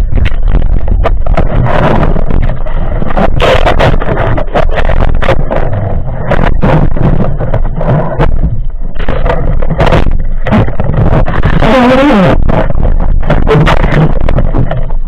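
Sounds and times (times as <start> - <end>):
knocks and clicks of diver movements: 0.0 - 15.0
underwater rumble of moving water: 0.0 - 15.0.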